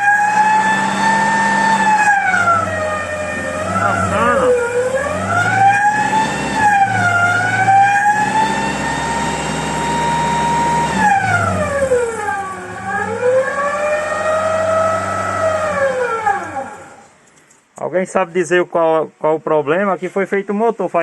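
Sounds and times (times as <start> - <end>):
engine revving: 0.0 - 17.1
loud engine whine: 0.0 - 17.1.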